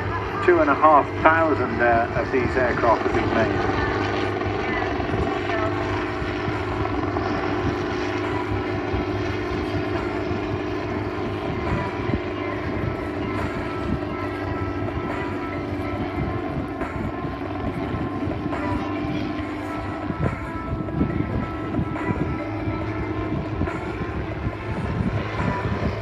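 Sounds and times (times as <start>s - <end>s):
propeller aircraft engine droning: 0.0s - 26.0s.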